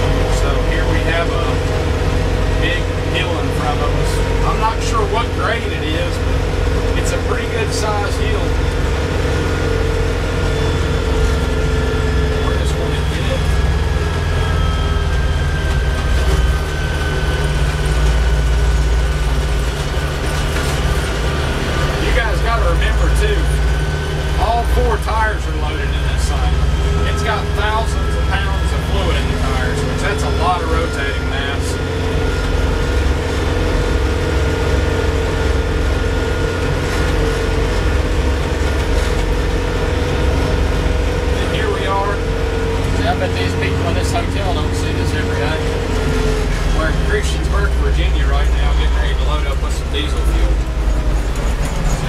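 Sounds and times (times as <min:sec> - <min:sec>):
thin whine: 0:00.0 - 0:52.0
tractor diesel engine running: 0:00.0 - 0:52.0.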